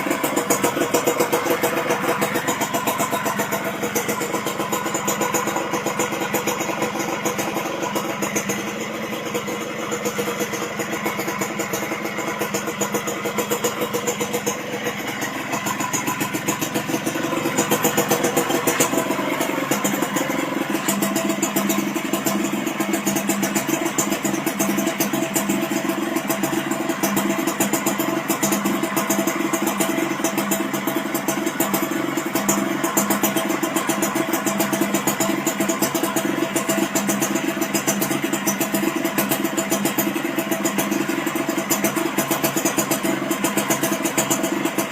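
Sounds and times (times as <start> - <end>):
two-stroke engine idling: 0.0 - 44.9.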